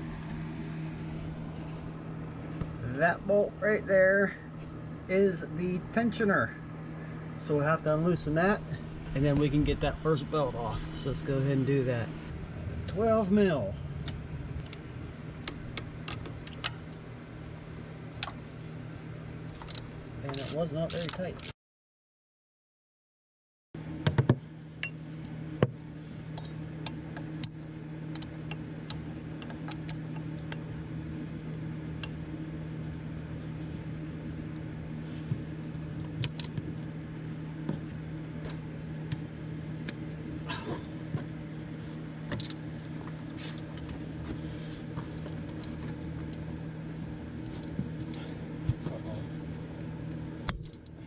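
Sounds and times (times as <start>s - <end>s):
steady low hum: 0.0s - 21.5s, 23.8s - 51.0s.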